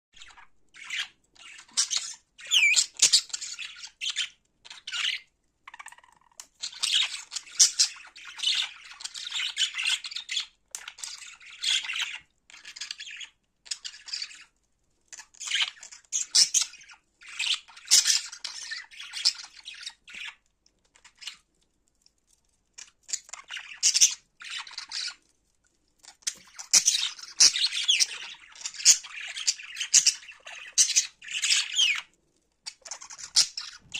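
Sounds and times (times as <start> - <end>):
cockatiels chirping and squawking: 0.2 - 21.5, 22.8 - 25.3, 26.0 - 33.9.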